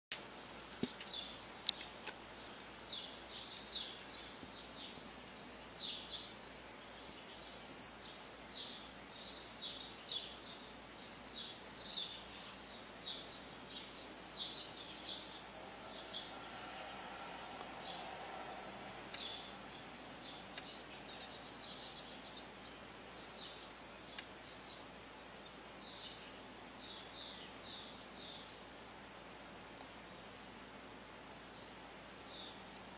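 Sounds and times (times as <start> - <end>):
small birds chirping: 0.1 - 32.9.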